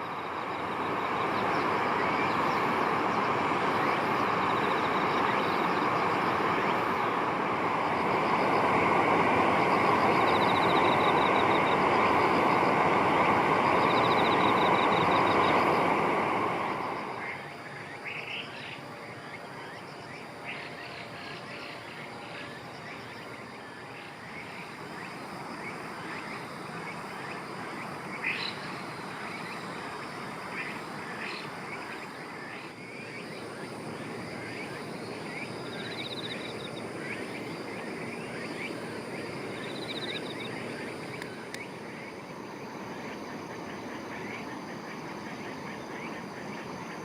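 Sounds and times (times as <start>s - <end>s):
steady noisy background: 0.0s - 47.0s.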